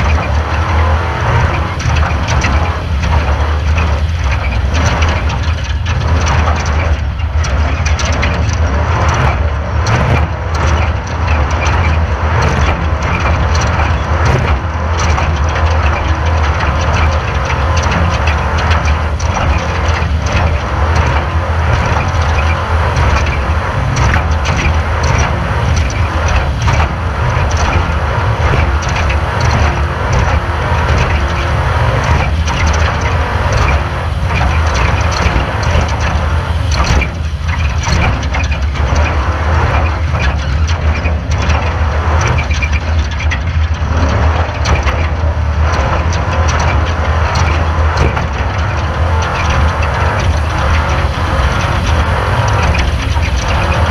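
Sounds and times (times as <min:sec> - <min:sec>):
chassis rattling and knocking: 0:00.0 - 0:53.9
race car engine drone: 0:00.0 - 0:53.9.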